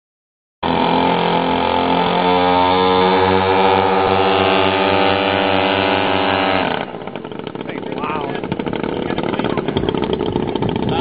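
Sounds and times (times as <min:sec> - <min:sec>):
model airplane engines droning: 0:00.6 - 0:11.0.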